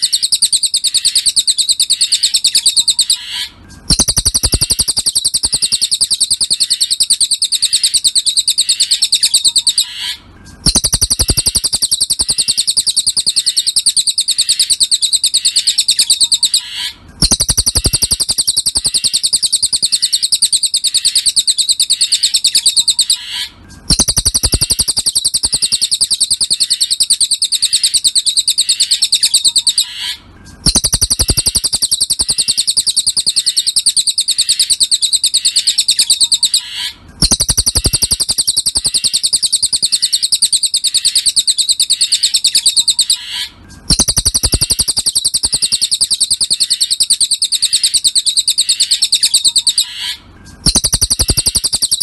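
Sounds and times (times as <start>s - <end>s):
songbird chattering trill: 0.0s - 52.0s.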